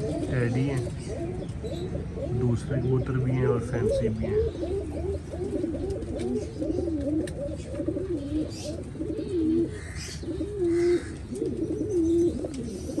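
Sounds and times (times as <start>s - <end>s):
pigeons cooing: 0.0s - 13.0s
small birds chirping: 0.0s - 13.0s.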